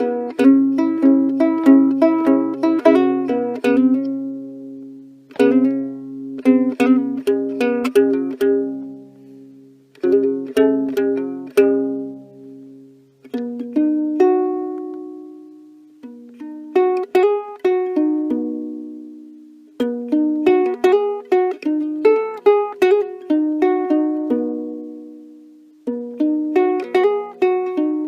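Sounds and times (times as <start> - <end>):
ukulele strumming chords: 0.0 - 28.0.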